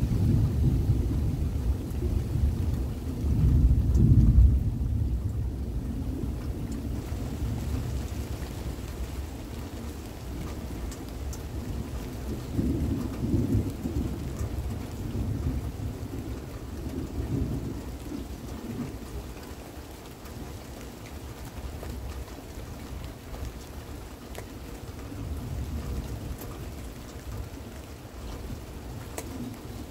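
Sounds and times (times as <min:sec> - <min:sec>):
thunder rumbling: 0:00.0 - 0:20.5, 0:21.2 - 0:29.9
steady rain: 0:00.0 - 0:29.9.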